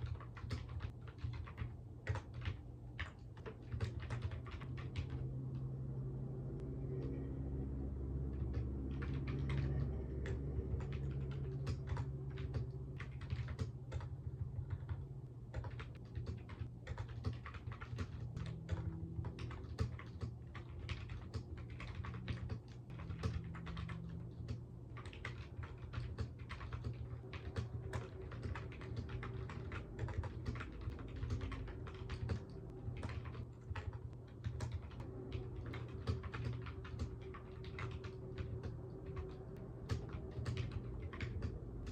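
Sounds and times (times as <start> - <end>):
keyboard typing: 0.0 - 5.7, 8.0 - 41.9
low steady hum: 0.0 - 41.9.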